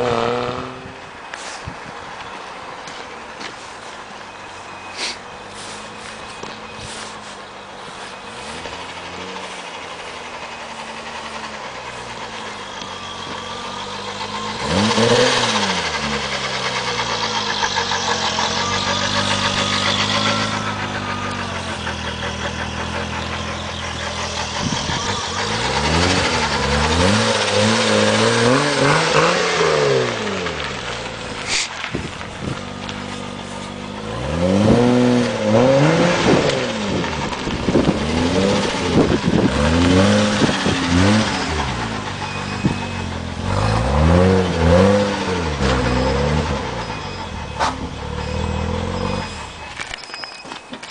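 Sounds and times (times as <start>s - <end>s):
car engine revving: 0.0s - 1.2s, 5.0s - 49.9s
drive belt squeal: 3.4s - 32.4s, 33.0s - 50.9s.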